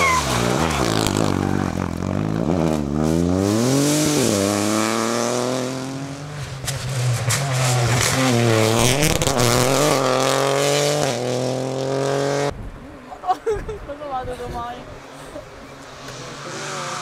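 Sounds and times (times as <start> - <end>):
rally car engine accelerating: 0.0 - 12.5, 15.8 - 17.0.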